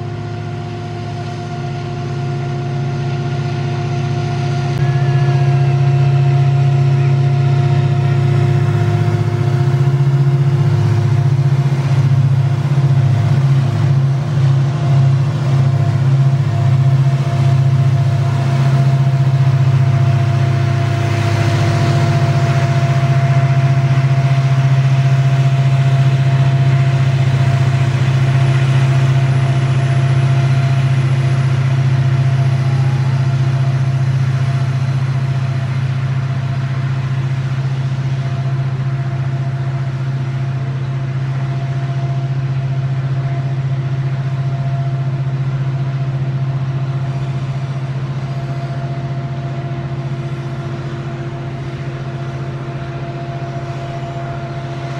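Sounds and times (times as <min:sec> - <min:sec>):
diesel locomotives droning: 0:00.0 - 0:54.9.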